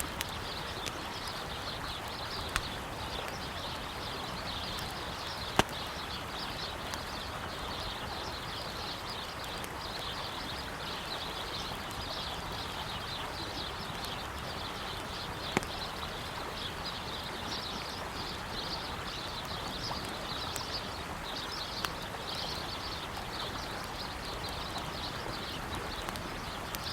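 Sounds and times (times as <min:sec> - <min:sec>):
campfire crackling and popping: 0:00.0 - 0:26.9
river flowing: 0:00.0 - 0:26.9
small birds chirping: 0:00.0 - 0:26.9.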